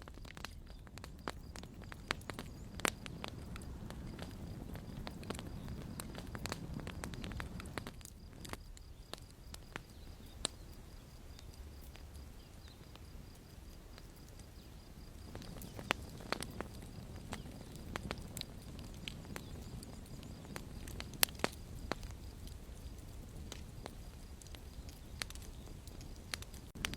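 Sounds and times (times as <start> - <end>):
campfire crackling and popping: 0.0 - 26.9
low rumble of burning: 0.0 - 26.9.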